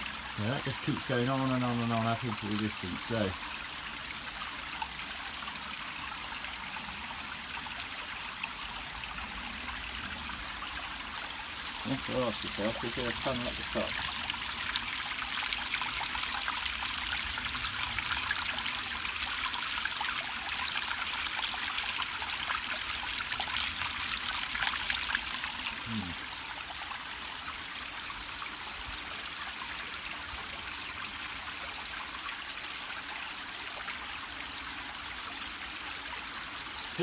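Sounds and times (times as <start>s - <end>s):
water trickling over stone: 0.0s - 37.0s.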